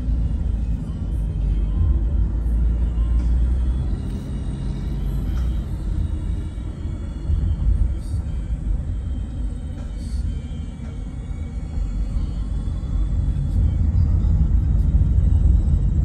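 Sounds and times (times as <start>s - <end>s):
car driving on paved road: 0.0s - 16.0s.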